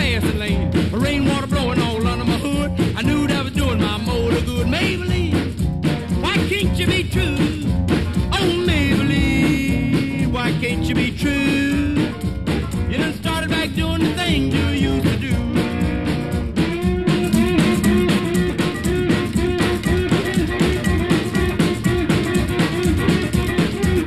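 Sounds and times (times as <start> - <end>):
guitar and drums music: 0.0 - 24.0.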